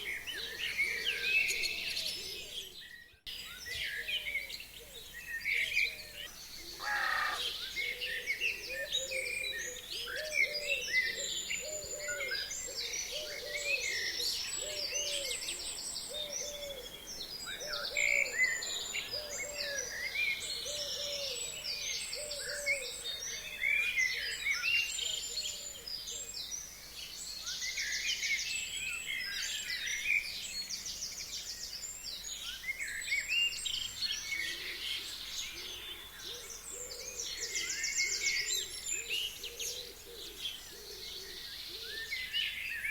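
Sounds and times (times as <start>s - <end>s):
forest birds chirping and trilling: 0.0s - 42.9s.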